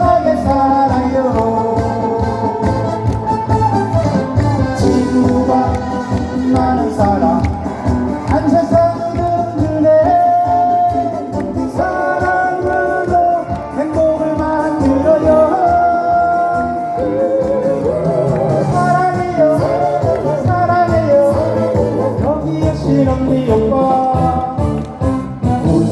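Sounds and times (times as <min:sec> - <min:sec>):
amplified backing music: 0:00.0 - 0:25.9
person singing live: 0:00.0 - 0:25.9.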